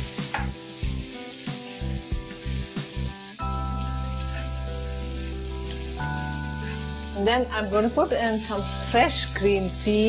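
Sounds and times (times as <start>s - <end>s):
background music: 0.0s - 10.0s
peppers sizzling in hot oil: 0.0s - 10.0s.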